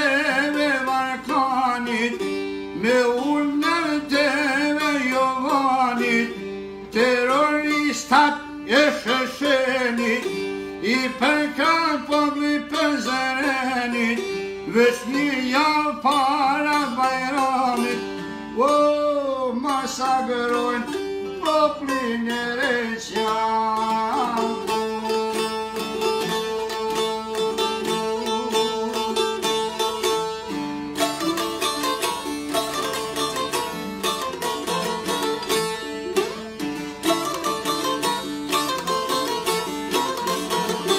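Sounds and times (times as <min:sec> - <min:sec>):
plucked lutes playing folk melody: 0:00.0 - 0:40.9.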